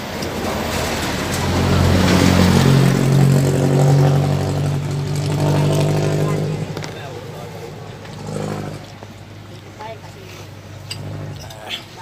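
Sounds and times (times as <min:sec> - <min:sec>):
vehicle driving past: 0:00.0 - 0:09.4, 0:10.5 - 0:11.6.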